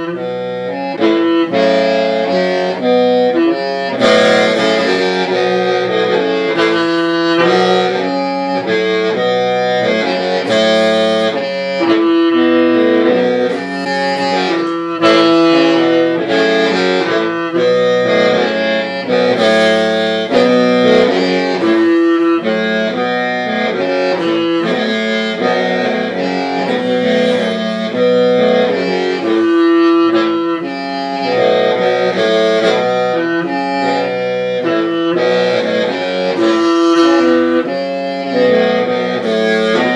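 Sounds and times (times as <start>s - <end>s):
mouth organ playing melody: 0.0s - 39.9s.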